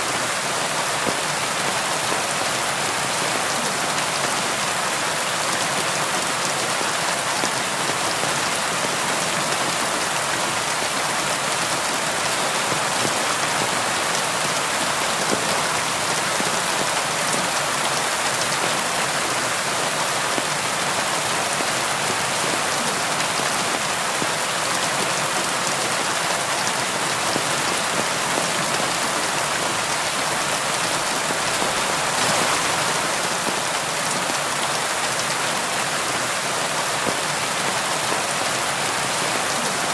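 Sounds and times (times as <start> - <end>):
rain pattering on a window: 0.2 - 39.9.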